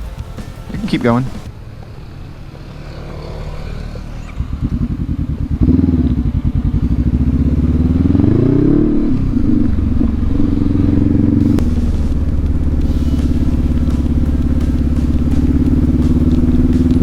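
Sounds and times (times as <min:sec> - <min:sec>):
motorcycle engine: 0:00.0 - 0:17.0.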